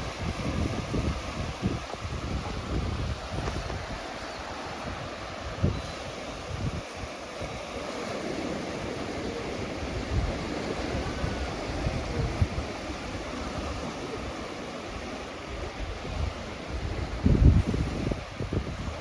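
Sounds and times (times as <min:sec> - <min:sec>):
ocean waves washing onto beach: 0:00.0 - 0:19.0
wind gusting on microphone: 0:00.0 - 0:19.0.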